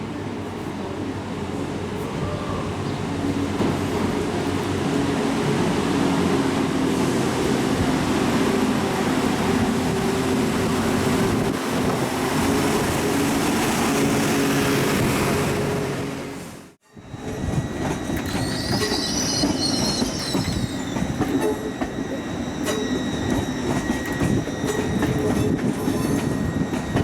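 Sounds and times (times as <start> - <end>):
train mechanical drone: 0.0 - 27.0.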